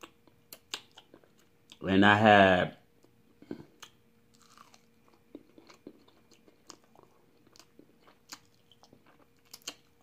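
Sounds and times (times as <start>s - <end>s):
chewing crunchy food: 0.0s - 1.8s, 3.0s - 10.0s
faint steady hum: 0.0s - 10.0s.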